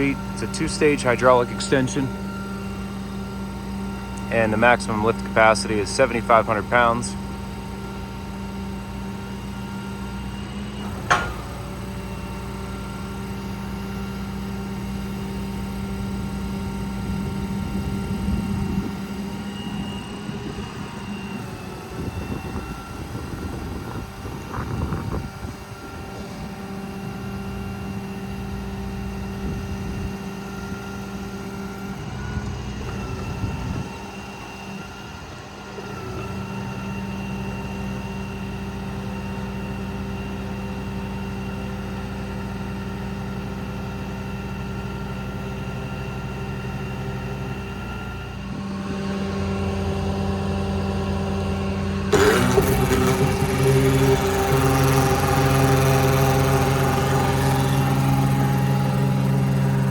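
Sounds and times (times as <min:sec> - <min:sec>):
diesel engine driving hydraulic pump: 0:00.0 - 0:59.9.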